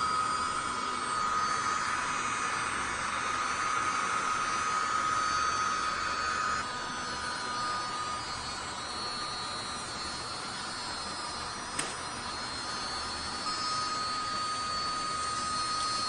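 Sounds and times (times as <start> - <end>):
keyboard vacuum whining: 0.0 - 16.0.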